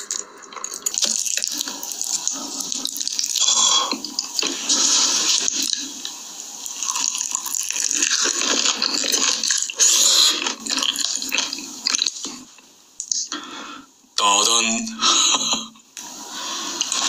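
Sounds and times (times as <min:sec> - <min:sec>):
wet eating sounds: 0:00.0 - 0:13.4, 0:16.0 - 0:17.0.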